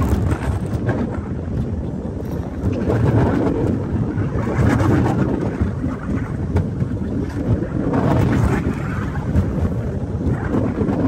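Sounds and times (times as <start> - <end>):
train rumbling on rails: 0.0 - 11.0
wind buffeting microphone: 0.0 - 11.0.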